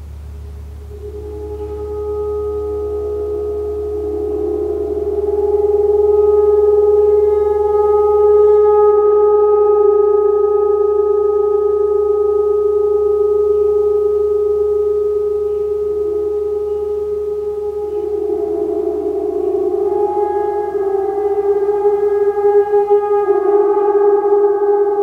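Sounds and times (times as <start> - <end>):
sustained ringing tone: 0.8 - 25.0.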